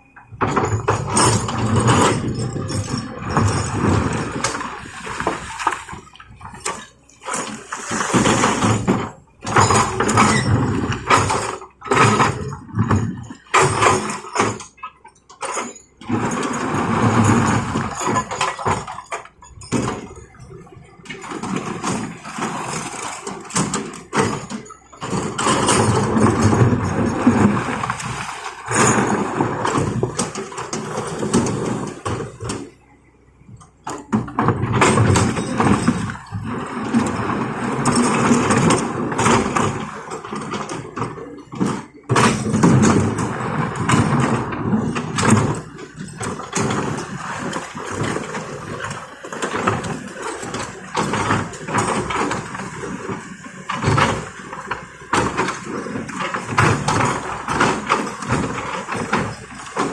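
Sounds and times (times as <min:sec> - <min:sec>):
excavator engine running: 0:00.0 - 0:59.9
rock and steel knocks and scrapes: 0:00.2 - 0:32.8, 0:33.5 - 0:59.9.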